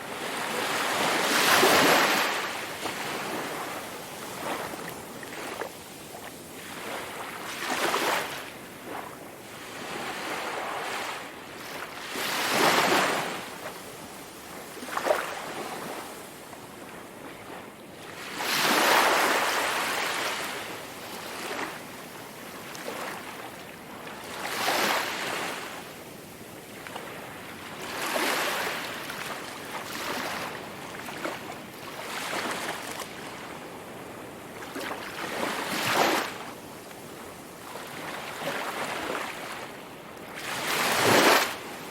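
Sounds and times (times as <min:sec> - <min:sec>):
sea waves breaking on shore: 0:00.1 - 0:14.1, 0:18.1 - 0:25.9, 0:26.7 - 0:36.7, 0:37.5 - 0:41.9.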